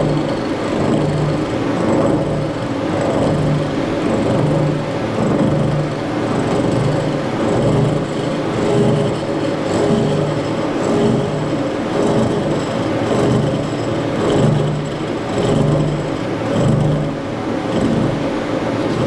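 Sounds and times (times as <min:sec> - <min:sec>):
milling machine cutting steel: 0:00.0 - 0:19.0.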